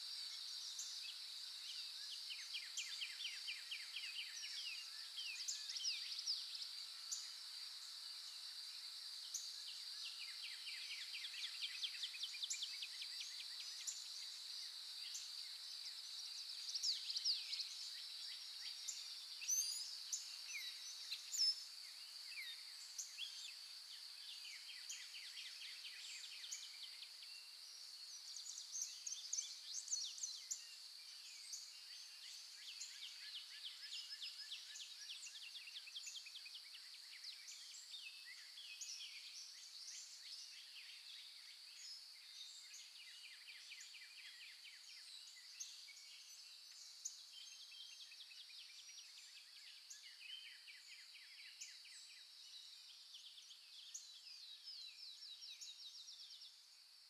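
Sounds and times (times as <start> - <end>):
small birds chirping: 0.3 - 56.8.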